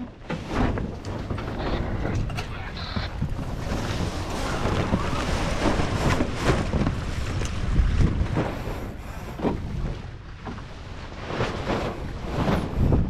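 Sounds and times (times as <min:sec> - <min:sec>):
slaps of spray and waves: 0:00.1 - 0:13.0
water rushing past hulls: 0:00.1 - 0:13.0
wind buffeting microphone: 0:00.7 - 0:13.0.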